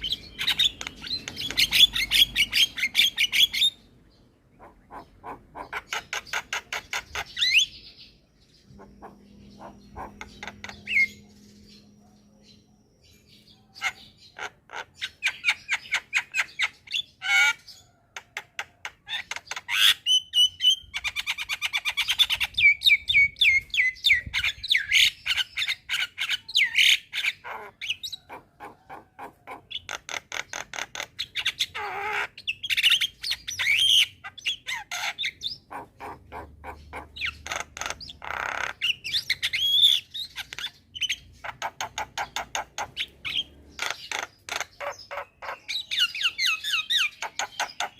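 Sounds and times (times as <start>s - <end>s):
myna chattering and squawking: 4.4s - 7.8s, 8.6s - 11.5s, 13.7s - 47.9s.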